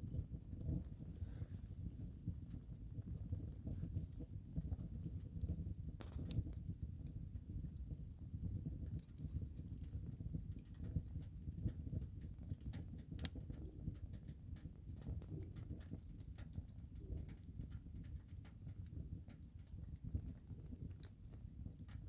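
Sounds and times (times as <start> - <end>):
fire crackling and popping: 0.0 - 22.0
flames rumbling: 0.0 - 22.0.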